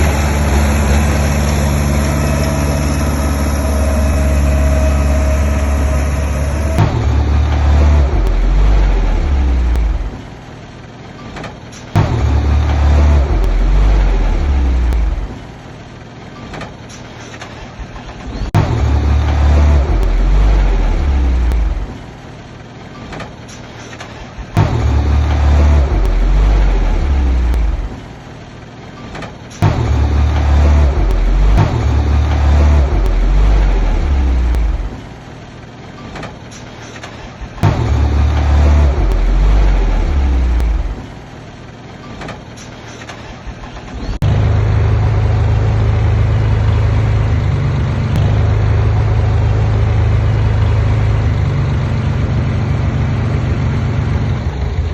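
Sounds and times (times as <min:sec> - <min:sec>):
diesel engine working under load: 0:00.0 - 0:54.9.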